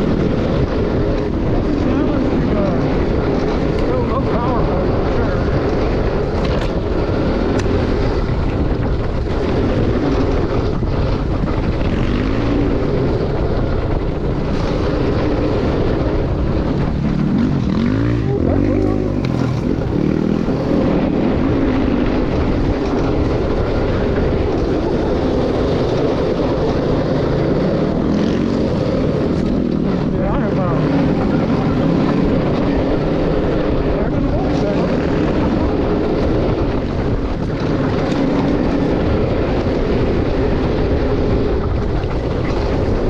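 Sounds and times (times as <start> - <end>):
wind and tyre noise: 0.0 - 43.0.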